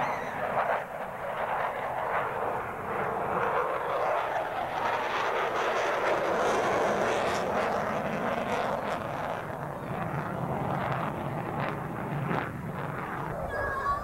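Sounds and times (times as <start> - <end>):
jet fighter engines rushing: 0.0 - 14.0.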